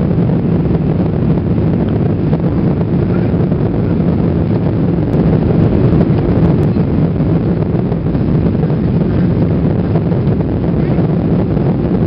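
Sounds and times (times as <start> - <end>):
airflow over wing: 0.0 - 12.0
jet engines droning: 0.0 - 12.0
low hum: 0.0 - 12.0.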